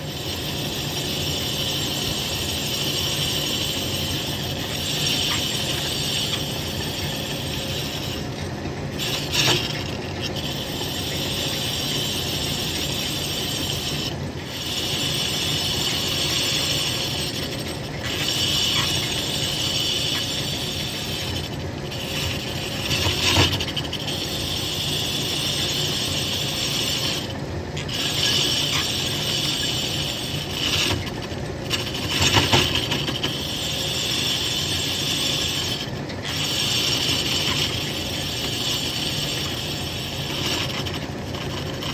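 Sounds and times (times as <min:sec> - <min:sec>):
metal lathe cutting hiss: 0:00.0 - 0:41.9.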